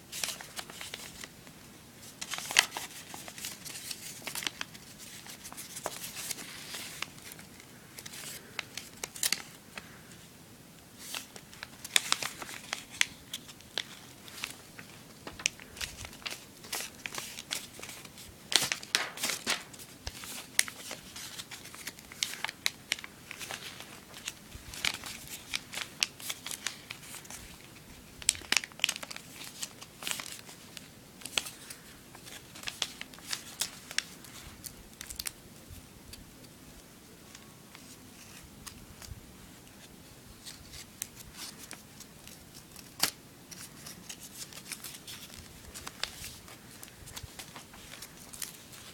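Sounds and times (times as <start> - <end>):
paper being folded and creased: 0.0 - 1.3, 2.0 - 10.0, 11.0 - 35.3, 37.3 - 48.9.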